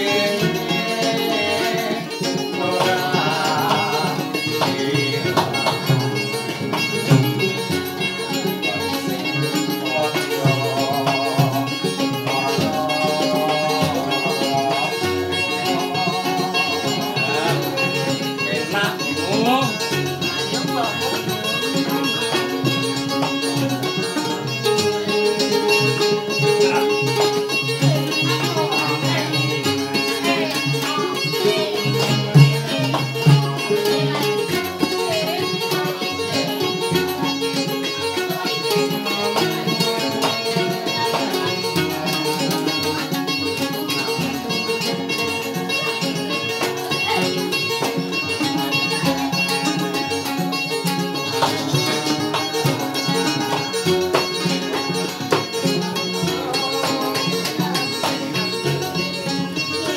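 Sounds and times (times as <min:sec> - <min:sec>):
acoustic guitar and ukulele music: 0:00.0 - 0:59.9.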